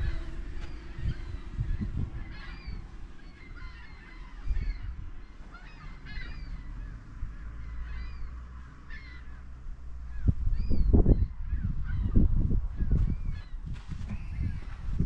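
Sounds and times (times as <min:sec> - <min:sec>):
birds calling: 0:00.0 - 0:15.0
wind rumbling on microphone: 0:00.0 - 0:15.0.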